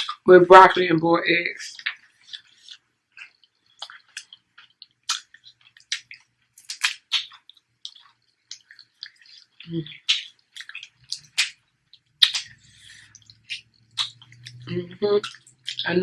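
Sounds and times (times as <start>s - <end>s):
chewing food: 0.0s - 0.3s, 1.6s - 16.0s.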